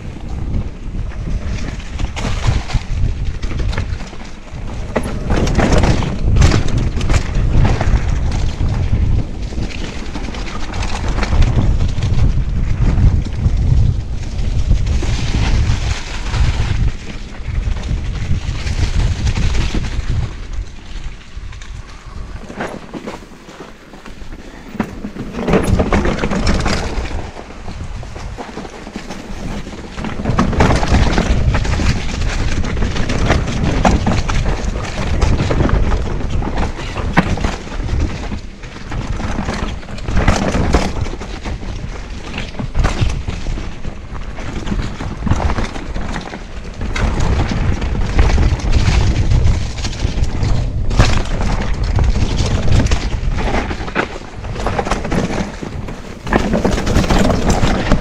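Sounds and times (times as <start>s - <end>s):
bike knocking and rattling over rocks: 0.0s - 58.0s
bike tyres rumbling on dirt trail: 0.0s - 58.0s
wind: 0.0s - 58.0s.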